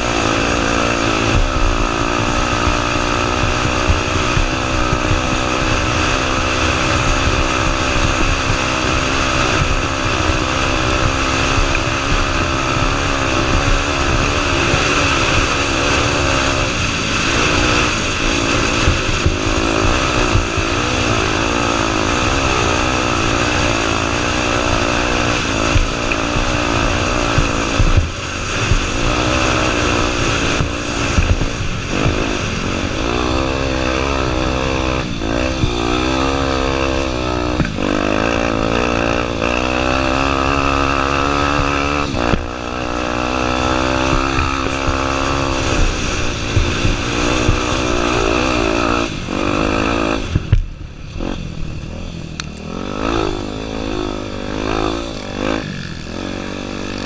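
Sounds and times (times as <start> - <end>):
constant rush of noise: 0.0 - 57.0
dirt bike engine revving: 0.0 - 57.0.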